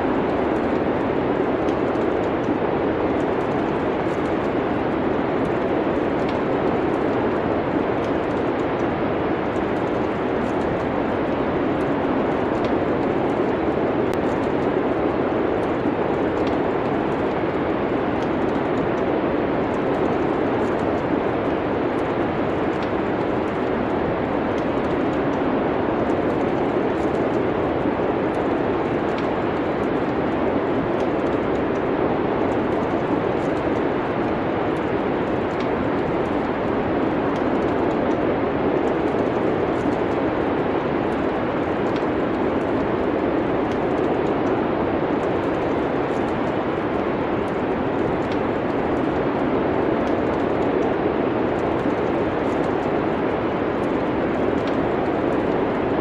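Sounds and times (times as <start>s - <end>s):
steady rushing noise: 0.0s - 56.0s
wood fire crackles: 0.0s - 56.0s.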